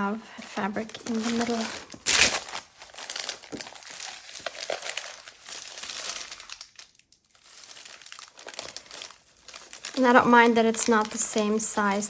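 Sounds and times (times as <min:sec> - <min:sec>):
paper rustling and crinkling: 0:00.5 - 0:12.0.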